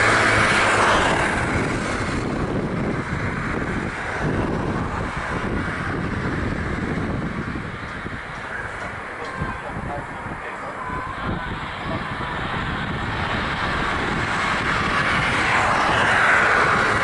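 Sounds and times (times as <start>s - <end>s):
jet engines: 0.0s - 17.0s
wind buffeting microphone: 0.0s - 17.0s.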